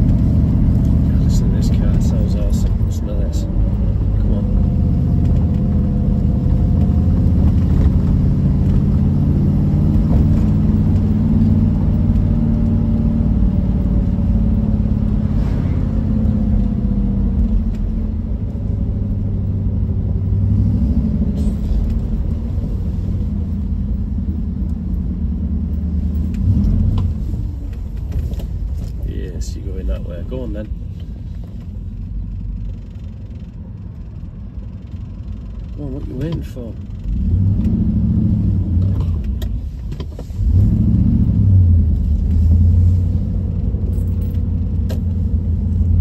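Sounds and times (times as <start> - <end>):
car engine rumbling: 0.0 - 46.0.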